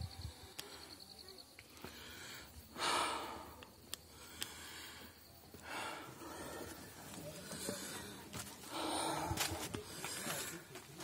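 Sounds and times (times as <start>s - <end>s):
person breathing hard: 1.8s - 10.6s.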